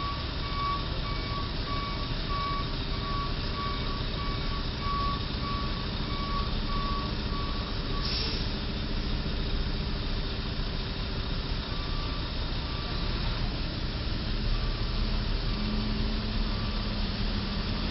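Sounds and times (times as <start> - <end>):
truck engine running: 0.0 - 17.9
truck reversing alarm beeping: 0.0 - 17.9.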